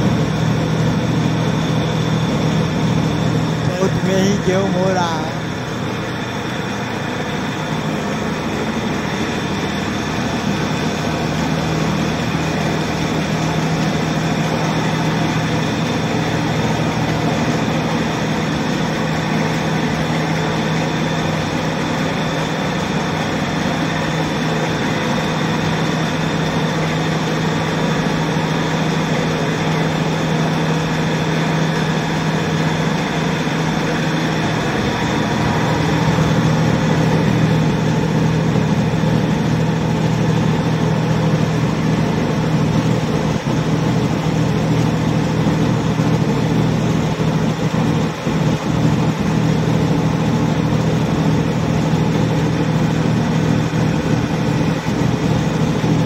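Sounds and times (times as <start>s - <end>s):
flour mill machine droning: 0.0s - 56.0s.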